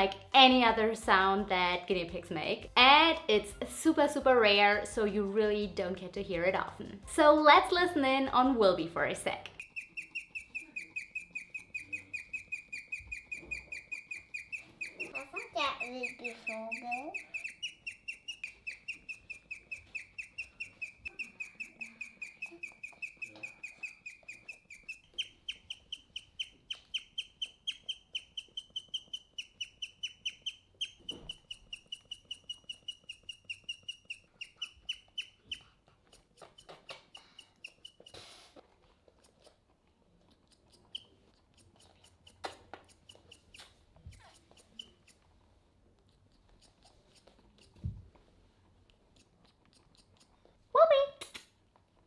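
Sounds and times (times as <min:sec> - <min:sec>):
guinea pig chirping: 0:04.7 - 0:51.5.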